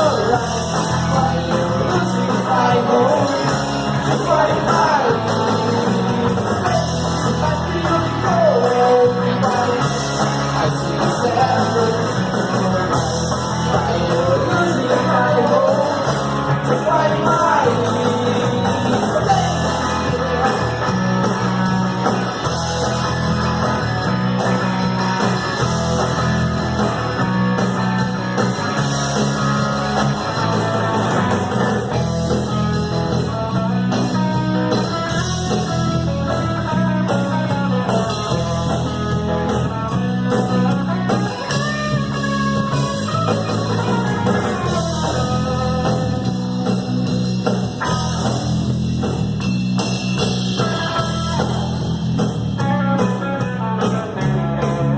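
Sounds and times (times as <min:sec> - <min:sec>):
guitar melody: 0:00.0 - 0:54.9
rock band playing: 0:00.0 - 0:54.9.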